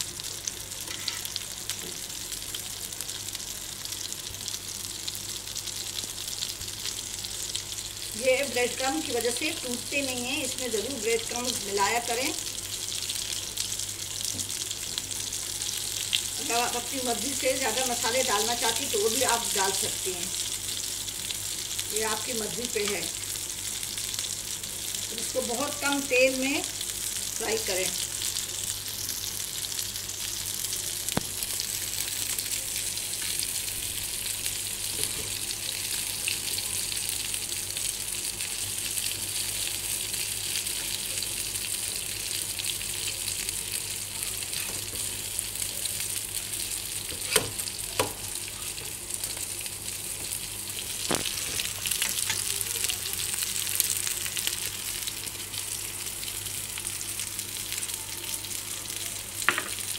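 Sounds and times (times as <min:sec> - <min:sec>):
cutlets sizzling in frying pan: 0:00.0 - 0:59.9.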